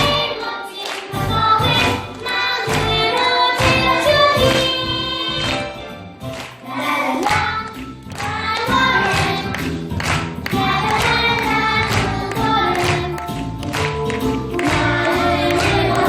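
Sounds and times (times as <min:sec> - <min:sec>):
children's choir singing: 0:00.0 - 0:09.8, 0:10.4 - 0:16.0
instrumental accompaniment: 0:00.0 - 0:16.0.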